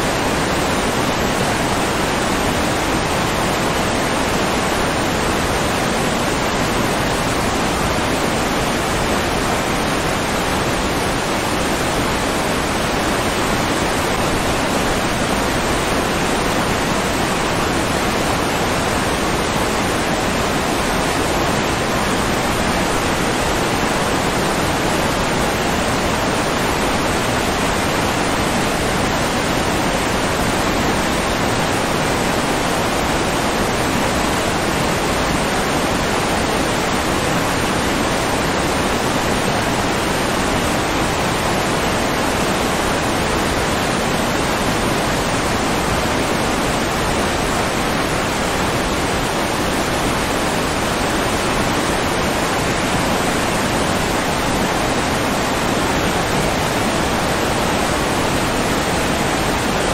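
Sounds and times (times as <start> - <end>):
rain falling on a pond: 0.0 - 59.9.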